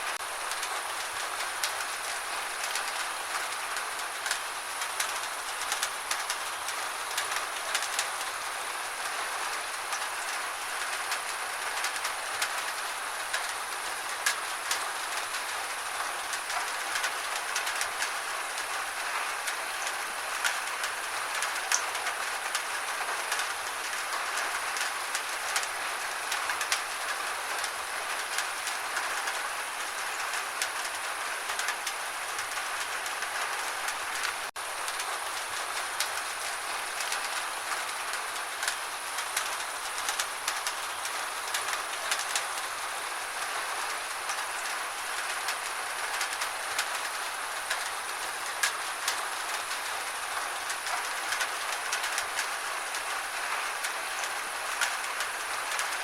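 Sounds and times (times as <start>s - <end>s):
gentle rain: 0.0s - 56.0s
rain drop ticks: 0.1s - 8.2s, 9.0s - 56.0s.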